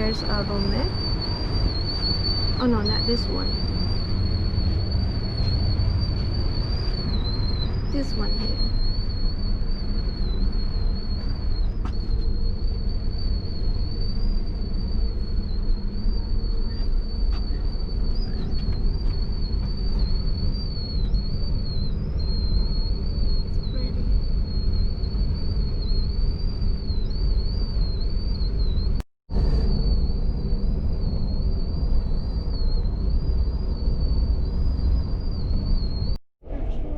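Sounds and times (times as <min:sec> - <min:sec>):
train rumbling from inside: 0:00.0 - 0:25.4, 0:29.3 - 0:36.9
thin high whine: 0:00.0 - 0:36.9.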